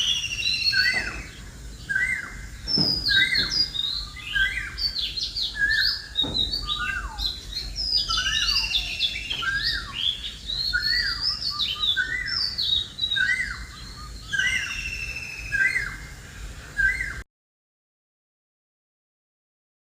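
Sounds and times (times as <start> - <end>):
birds trilling: 0.0 - 17.2.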